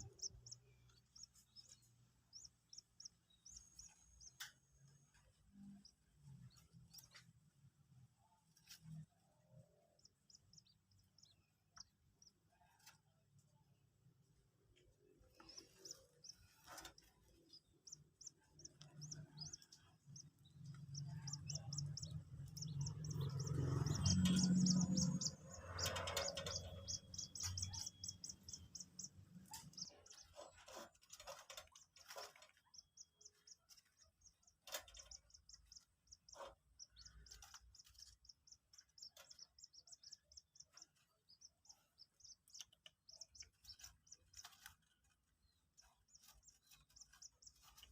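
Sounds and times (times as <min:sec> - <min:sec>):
chicks peeping: 0:00.0 - 0:07.4, 0:09.6 - 0:13.6, 0:14.3 - 0:47.9.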